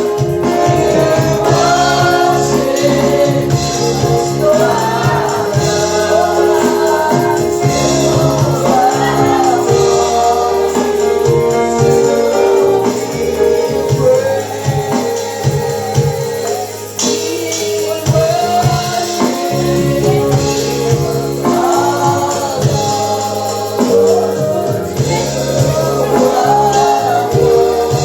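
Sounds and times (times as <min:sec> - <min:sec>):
tambourine and percussion beat: 0:00.0 - 0:28.0
voices singing together: 0:00.0 - 0:28.0.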